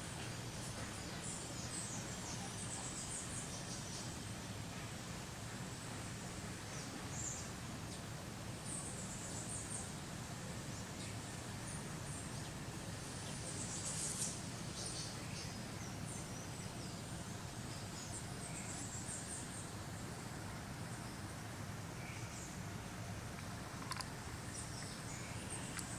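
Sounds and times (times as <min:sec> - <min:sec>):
background hiss: 0:00.0 - 0:25.9.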